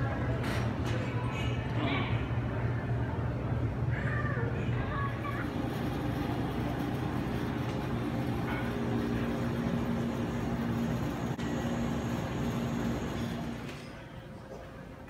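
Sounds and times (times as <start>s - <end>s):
indoor background hum: 0.0s - 15.0s.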